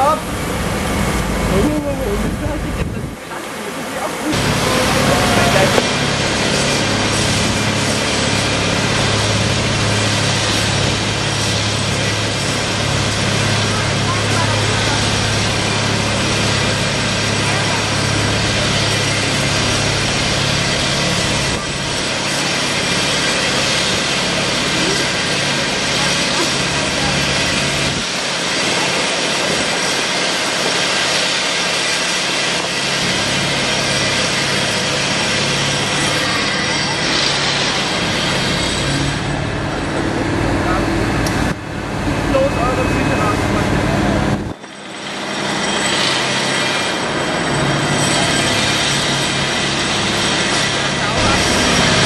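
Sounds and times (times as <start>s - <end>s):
engine drone: 0.0s - 52.0s.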